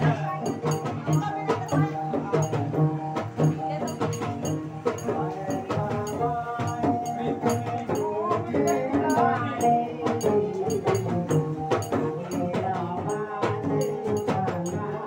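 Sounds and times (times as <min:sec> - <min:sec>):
guitar: 0:00.0 - 0:15.0
steady percussion beat: 0:00.0 - 0:15.0.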